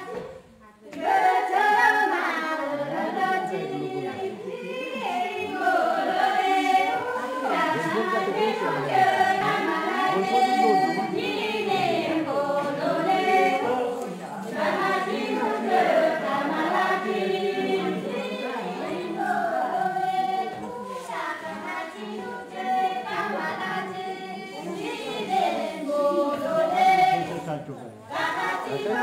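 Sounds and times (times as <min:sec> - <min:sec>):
group singing folk song: 0:00.0 - 0:29.0.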